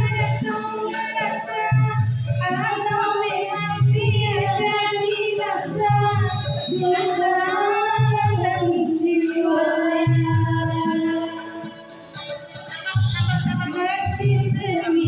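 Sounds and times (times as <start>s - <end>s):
young woman singing: 0.0s - 11.7s, 13.7s - 15.0s
pop backing track with bass: 0.0s - 15.0s.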